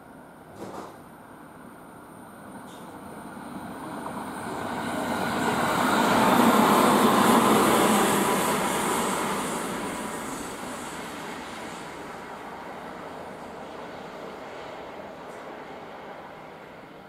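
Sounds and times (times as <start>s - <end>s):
electric train passing: 1.3s - 17.0s.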